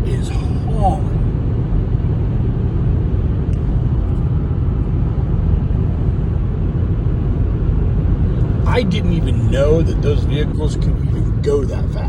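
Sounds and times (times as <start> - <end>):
car road and wind rumble: 0.0 - 12.0.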